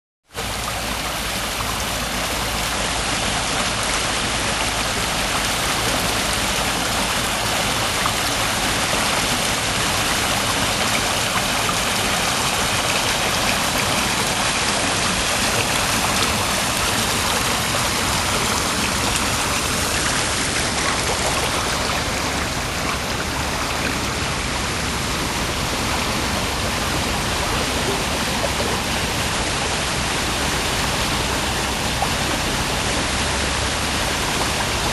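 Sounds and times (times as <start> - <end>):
waterfall splashing: 0.4 - 34.9.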